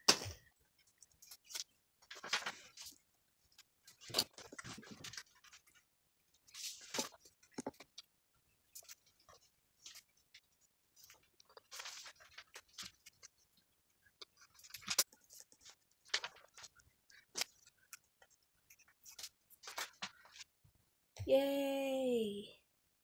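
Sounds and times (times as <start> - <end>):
paper rustling: 0.8 - 8.1, 8.7 - 20.6.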